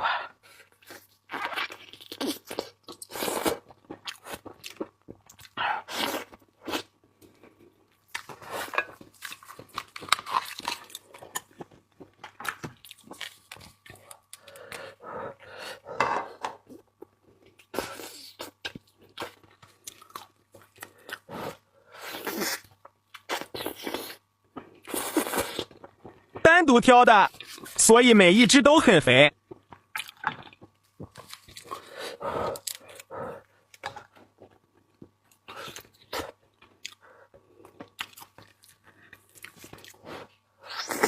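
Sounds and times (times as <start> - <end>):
chewing and crunching: 0.4 - 26.4, 29.4 - 41.0.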